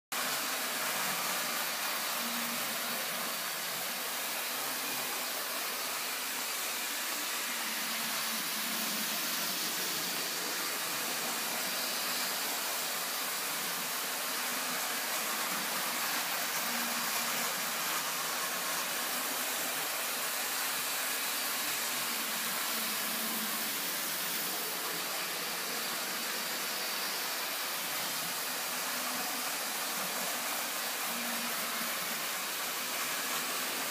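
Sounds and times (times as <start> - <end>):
model trains whirring on track: 0.2 - 33.9.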